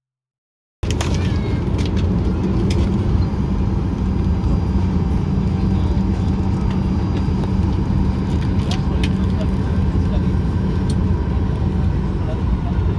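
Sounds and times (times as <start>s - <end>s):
airliner cabin rumble: 0.8s - 12.9s.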